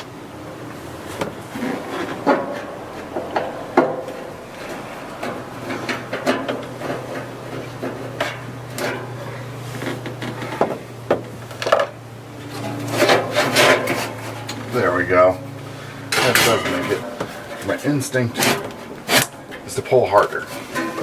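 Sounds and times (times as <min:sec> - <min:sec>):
metal knocks creaks and scraping: 0:00.0 - 0:21.0.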